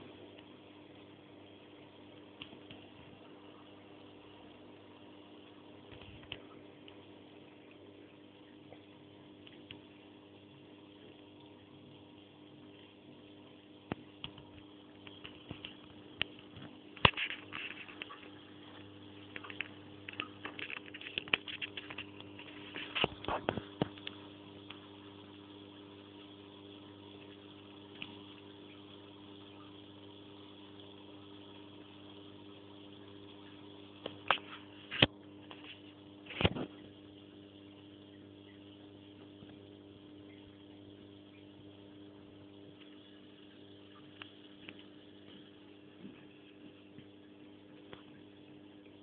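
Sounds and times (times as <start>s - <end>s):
aquarium equipment humming: 0.0s - 49.0s
faint water sounds: 0.0s - 49.0s.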